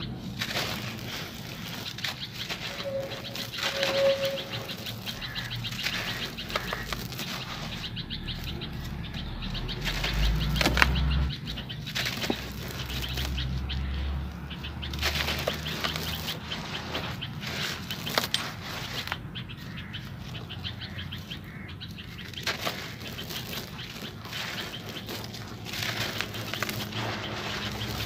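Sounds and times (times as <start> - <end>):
sand-cement chunks crumbling by hand: 0.0 - 28.0.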